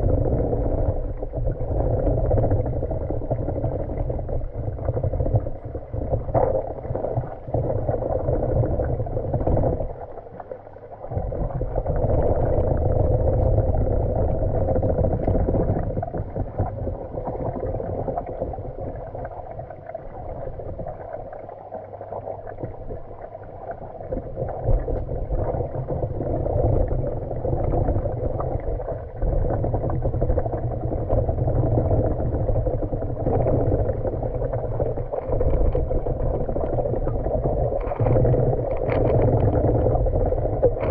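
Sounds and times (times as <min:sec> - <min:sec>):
underwater rumble and gurgling: 0:00.0 - 0:40.9.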